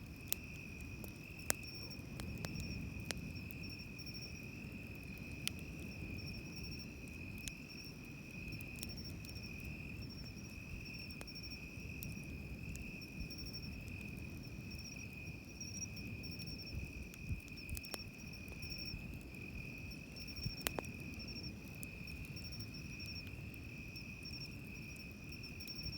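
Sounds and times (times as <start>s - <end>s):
campfire snaps and pops: 0.0s - 25.9s
insects trilling: 0.1s - 25.9s.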